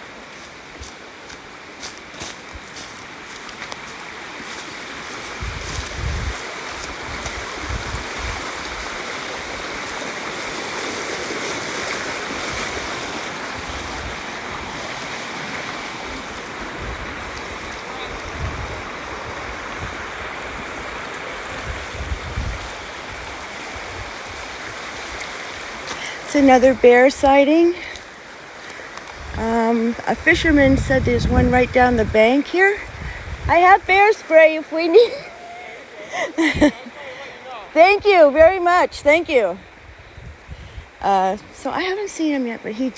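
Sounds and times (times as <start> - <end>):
river water rushing: 0.0 - 30.9, 32.0 - 42.9.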